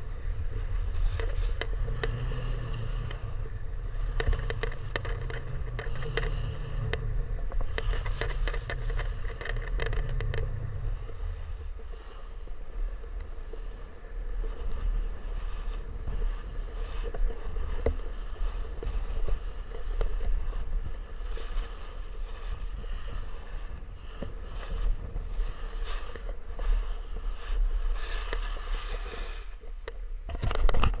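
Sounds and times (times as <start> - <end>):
edges scraping over packed snow: 0.0 - 29.8
wind buffeting microphone: 0.0 - 29.8.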